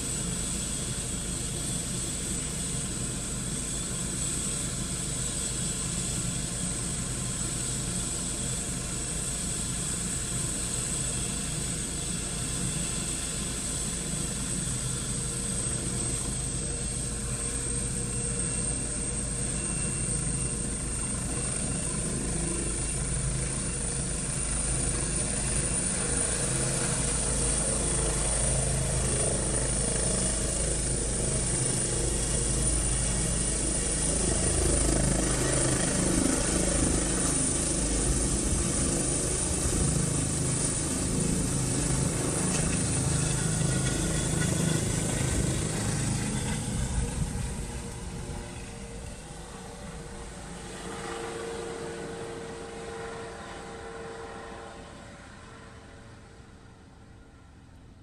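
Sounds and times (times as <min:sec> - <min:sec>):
helicopter rotor rumble: 0:00.0 - 0:58.0
helicopter turbine whine: 0:00.0 - 0:58.0.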